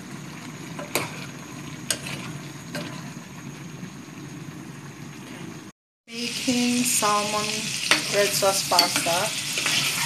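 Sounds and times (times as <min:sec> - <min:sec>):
sausages and shrimp sizzling in a pan: 0:00.0 - 0:10.0.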